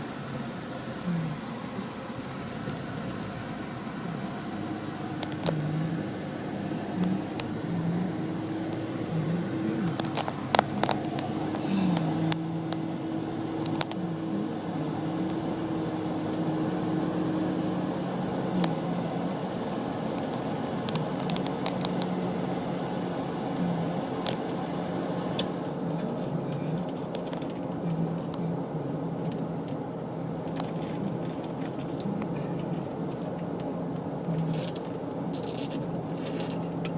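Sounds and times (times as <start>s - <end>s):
car engine hum: 0.0s - 36.9s.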